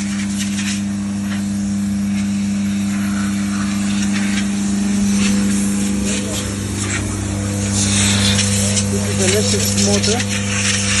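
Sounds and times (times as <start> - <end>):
motor and pump hum: 0.0 - 11.0.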